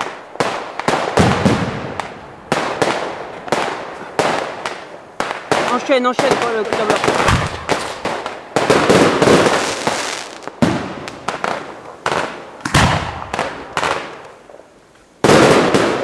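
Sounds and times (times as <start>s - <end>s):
fireworks bangs and crackle: 0.0s - 16.0s.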